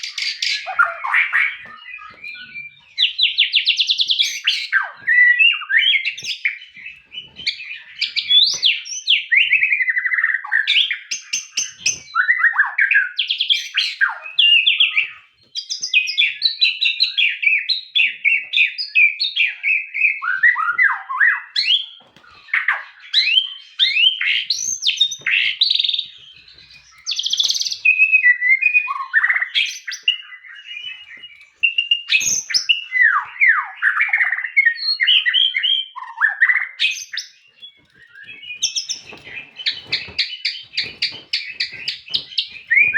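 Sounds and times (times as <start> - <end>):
bird singing: 0.0 - 42.9.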